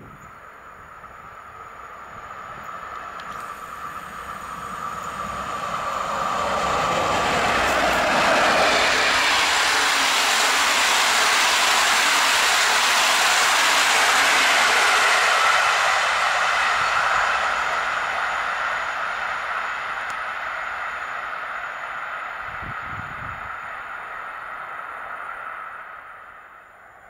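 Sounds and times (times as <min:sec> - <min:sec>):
passenger train passing at speed: 0:00.0 - 0:27.0
wheels rushing on rails: 0:00.0 - 0:27.0.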